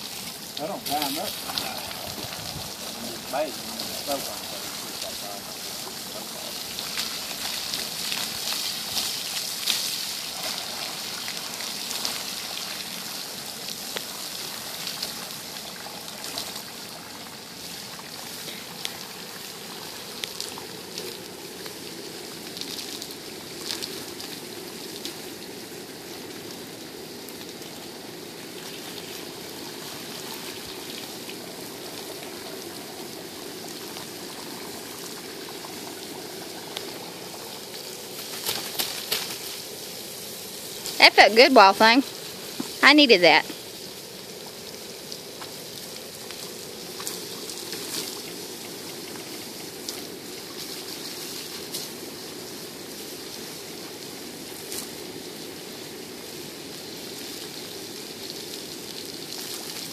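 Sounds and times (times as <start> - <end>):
hose water spraying: 0.0 - 59.9.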